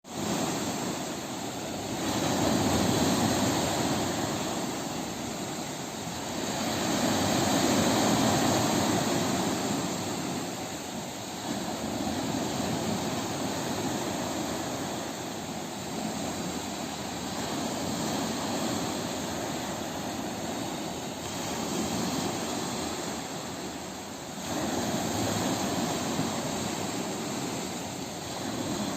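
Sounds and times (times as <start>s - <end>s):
ocean waves breaking: 0.0s - 28.9s.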